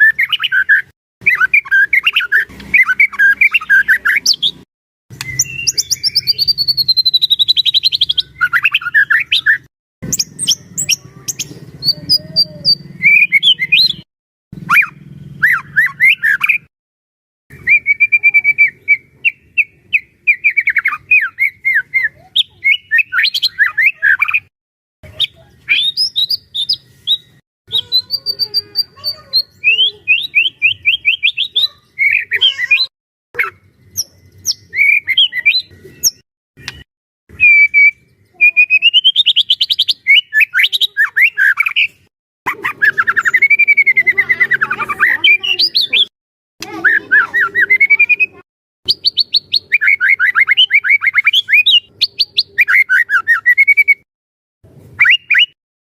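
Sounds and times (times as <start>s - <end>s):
bird singing whistled phrases: 0.0s - 16.7s, 17.5s - 24.5s, 25.1s - 42.0s, 42.7s - 54.1s, 55.0s - 55.6s.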